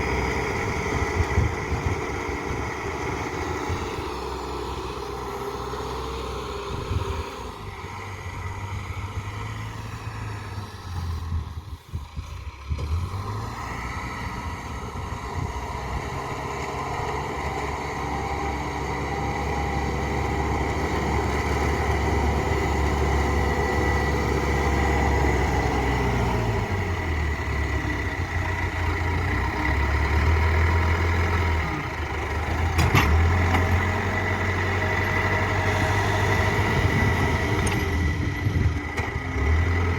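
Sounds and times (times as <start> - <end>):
backhoe diesel engine: 0.0 - 39.9.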